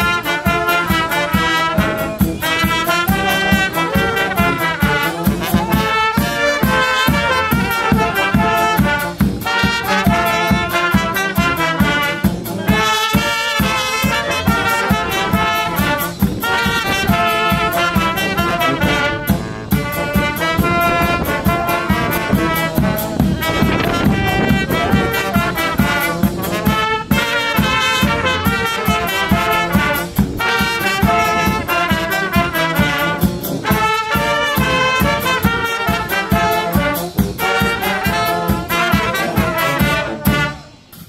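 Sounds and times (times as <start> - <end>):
bass drum beat: 0.0 - 40.5
brass band playing a march: 0.0 - 41.0.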